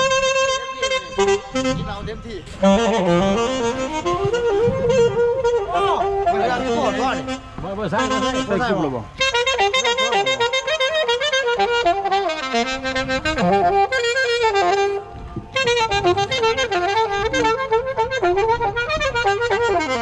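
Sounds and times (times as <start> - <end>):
reedy instrumental lead melody: 0.0 - 20.0.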